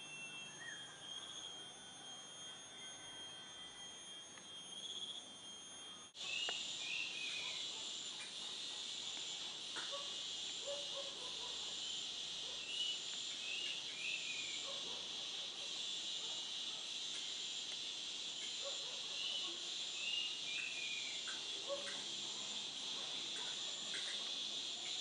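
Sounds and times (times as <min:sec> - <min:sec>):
insect chorus trilling: 0:00.0 - 0:25.0.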